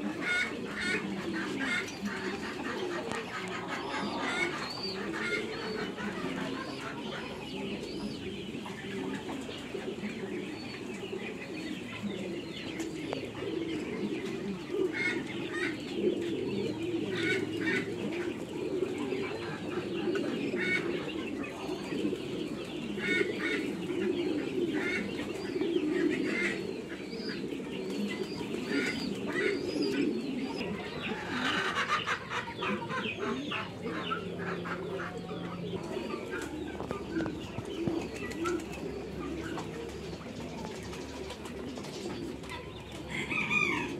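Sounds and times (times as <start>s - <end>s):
poultry calling: 0.0s - 43.9s.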